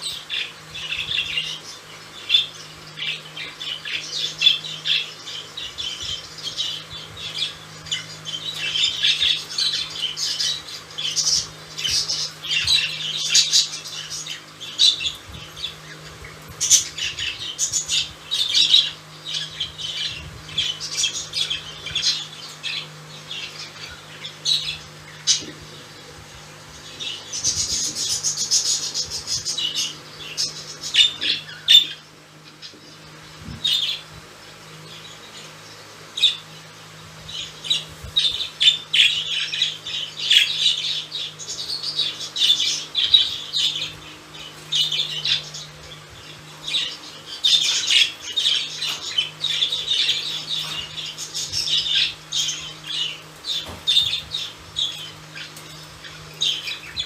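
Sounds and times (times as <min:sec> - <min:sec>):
budgerigars chattering: 0:00.0 - 0:36.6, 0:37.2 - 0:57.0.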